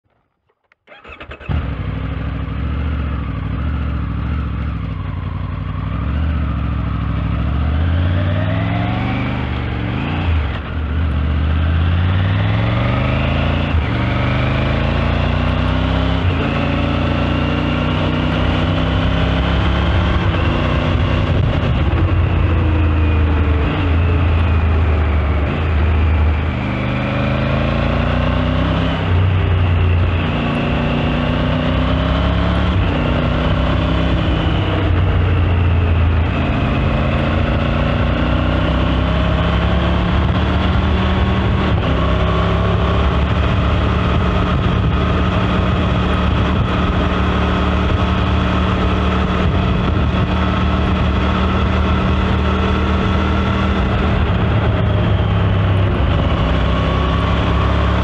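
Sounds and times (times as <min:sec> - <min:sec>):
motorcycle engine accelerating: 0:00.6 - 0:58.0.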